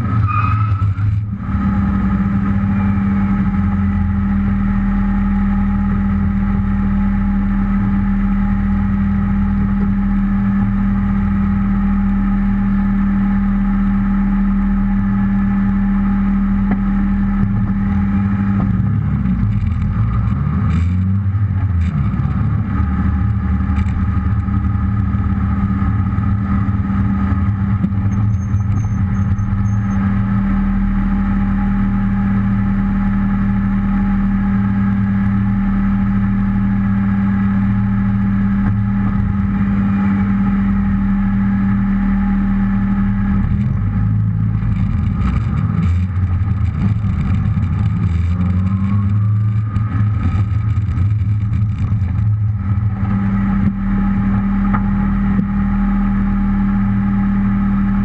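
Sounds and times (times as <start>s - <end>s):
rally car engine idling: 0.0s - 58.0s.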